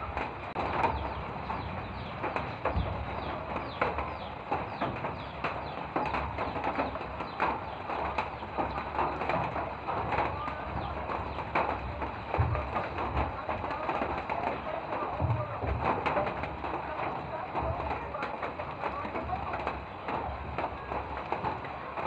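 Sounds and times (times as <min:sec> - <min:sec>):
birds chirping: 0:00.0 - 0:22.0
light rain: 0:00.0 - 0:22.0.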